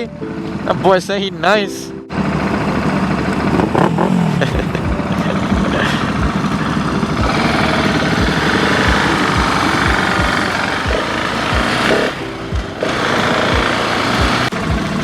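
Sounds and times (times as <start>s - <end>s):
motorcycle engine running: 2.1s - 15.0s.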